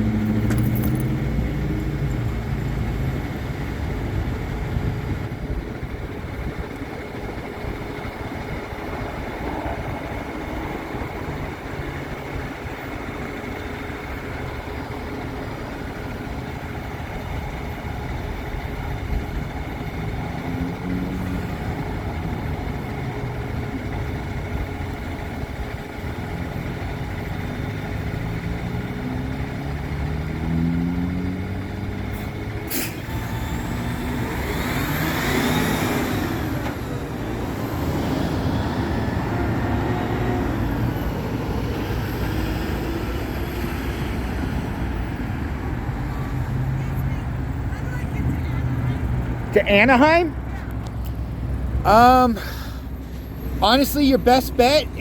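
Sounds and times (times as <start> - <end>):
engine accelerating through gears: 0.0 - 46.8
traffic noise: 0.0 - 55.0.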